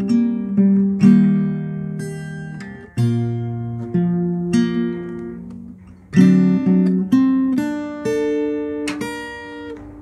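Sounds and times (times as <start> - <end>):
plucked guitar music: 0.0 - 10.0.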